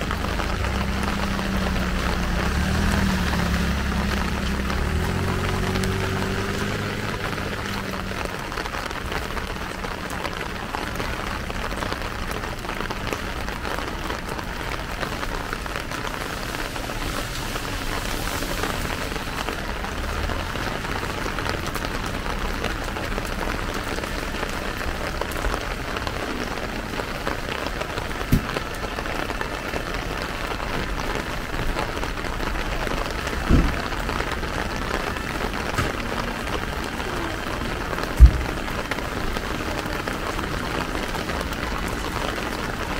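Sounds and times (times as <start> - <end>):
rain on plastic umbrella: 0.0 - 42.9
vehicle engine hum: 0.0 - 42.9.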